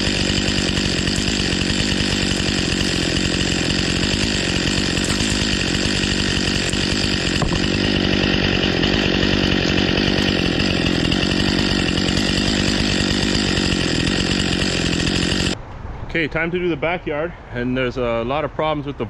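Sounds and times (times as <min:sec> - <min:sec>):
chainsaw running: 0:00.0 - 0:15.6.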